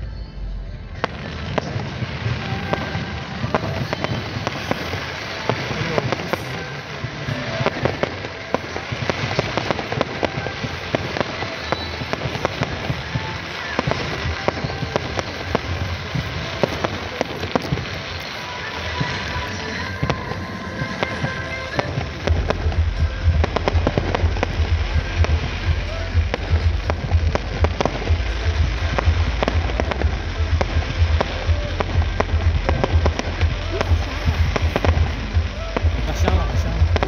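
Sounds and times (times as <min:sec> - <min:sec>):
fireworks crackling and bursting: 0:00.0 - 0:37.0.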